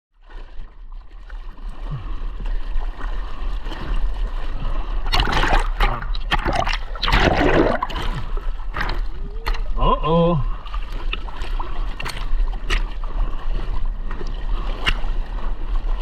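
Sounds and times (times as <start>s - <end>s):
ocean water splashing: 0.2s - 16.0s.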